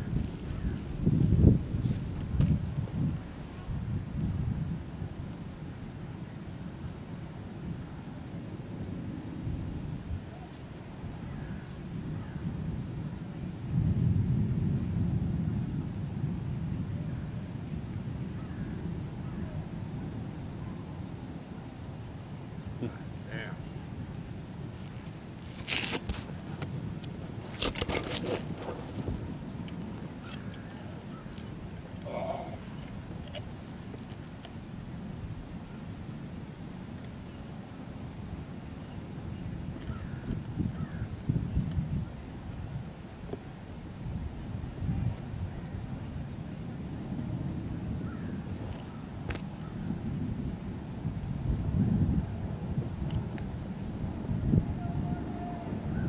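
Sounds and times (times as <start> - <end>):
insects chirring: 0.0 - 56.0
storm wind on microphone: 0.0 - 56.0.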